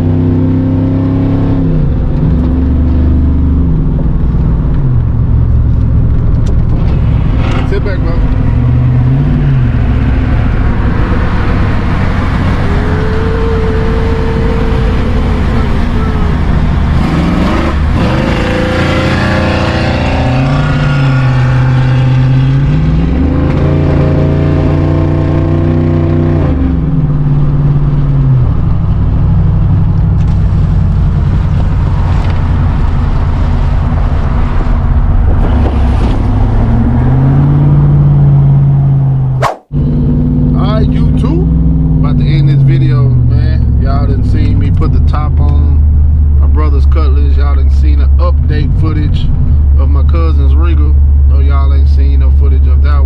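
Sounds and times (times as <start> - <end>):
vehicle engine accelerating: 0.0 - 42.6.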